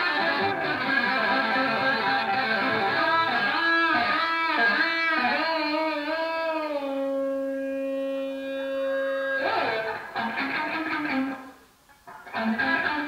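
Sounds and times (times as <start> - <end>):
electric guitar solo: 0.0 - 13.0.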